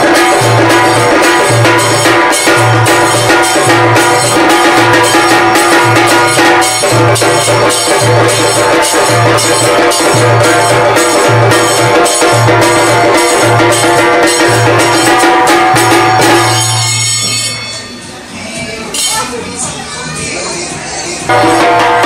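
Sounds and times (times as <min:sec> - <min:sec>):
music with percussive beat: 0:00.0 - 0:22.0.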